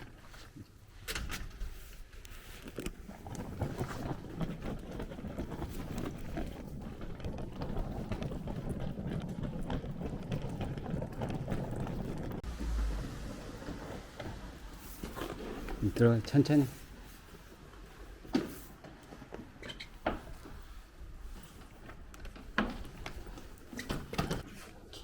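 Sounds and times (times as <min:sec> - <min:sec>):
suitcase wheels rattling: 0:01.3 - 0:25.0.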